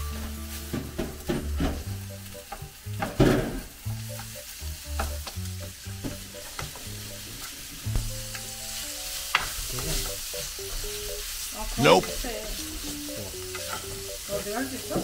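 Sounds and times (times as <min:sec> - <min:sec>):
light background music: 0:00.0 - 0:15.0
meat sizzling in a frying pan: 0:00.0 - 0:15.0.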